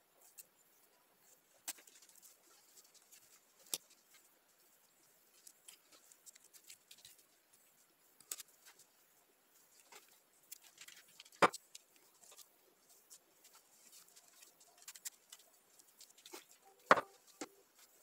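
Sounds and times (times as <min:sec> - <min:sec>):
masking tape crinkling: 0:00.2 - 0:18.0.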